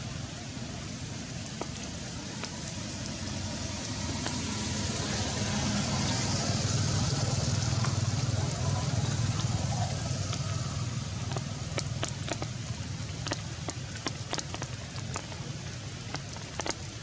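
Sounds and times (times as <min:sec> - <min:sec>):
heavy rain hissing: 0:00.0 - 0:14.0
raindrops splashing: 0:00.0 - 0:17.0.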